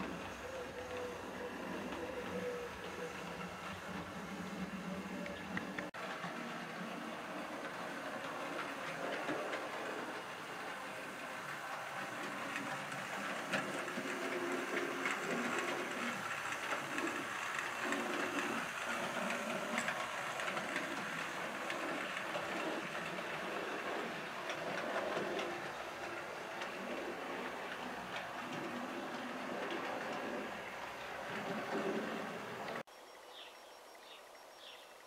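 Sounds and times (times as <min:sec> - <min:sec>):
model train rumbling: 0:00.0 - 0:32.8.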